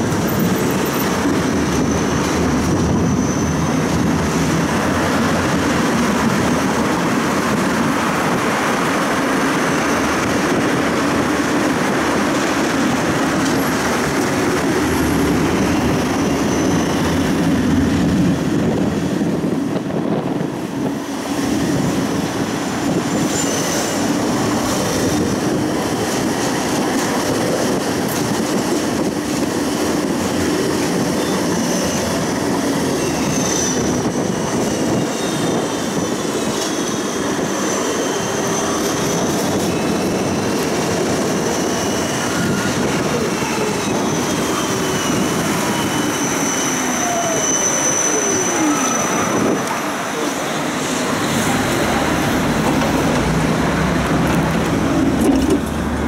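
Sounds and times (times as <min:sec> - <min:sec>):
tram wheels rumbling: 0:00.0 - 0:56.0.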